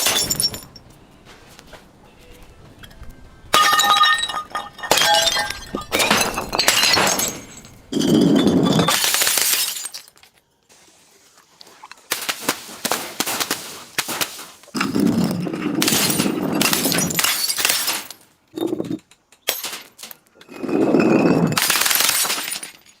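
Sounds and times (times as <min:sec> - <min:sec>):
objects crackling and crunching: 0:00.0 - 0:23.0.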